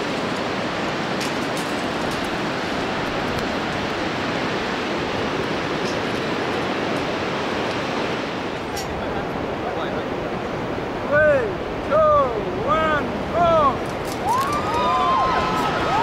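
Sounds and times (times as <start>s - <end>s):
fast-flowing river rushing: 0.0s - 16.0s.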